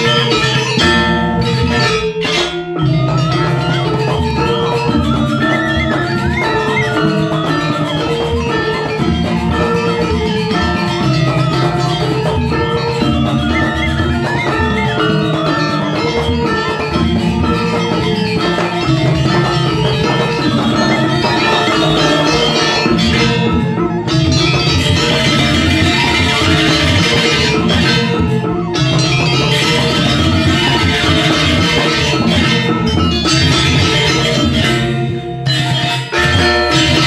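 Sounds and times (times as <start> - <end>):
bamboo flute: 0.0 - 35.0
drumming: 0.0 - 37.0.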